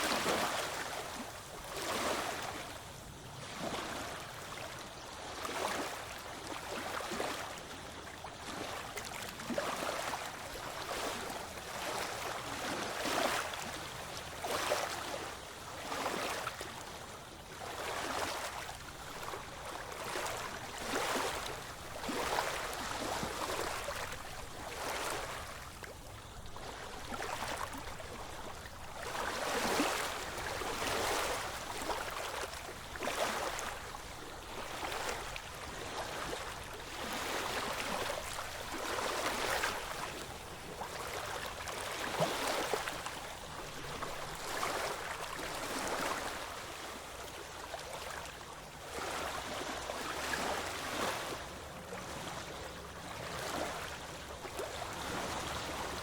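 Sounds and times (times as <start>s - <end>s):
small waves lapping: 0.0s - 56.0s.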